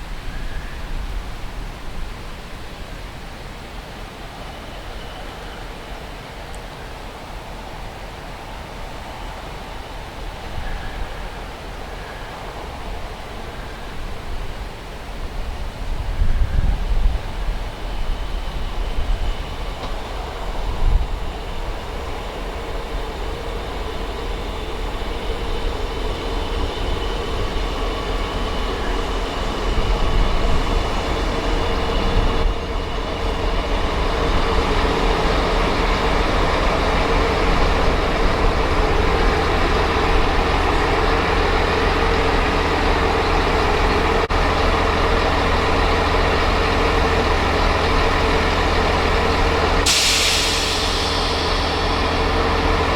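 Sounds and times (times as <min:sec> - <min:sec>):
diesel train engine drone: 0:00.0 - 0:52.9.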